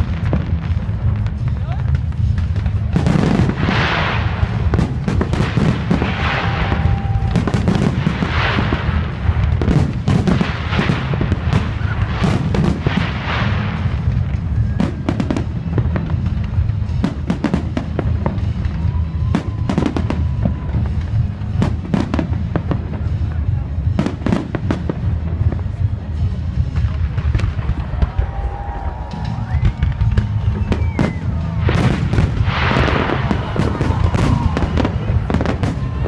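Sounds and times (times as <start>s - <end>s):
crackling hissing firework bursts: 0.0s - 36.0s
firework bangs: 0.0s - 36.0s.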